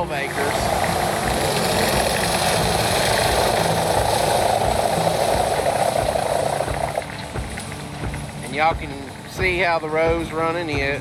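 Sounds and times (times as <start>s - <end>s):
machine humming and buzzing: 0.0s - 11.0s.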